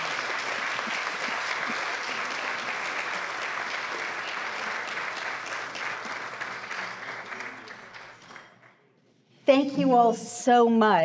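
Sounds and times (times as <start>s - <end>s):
audience clapping: 0.0s - 8.9s.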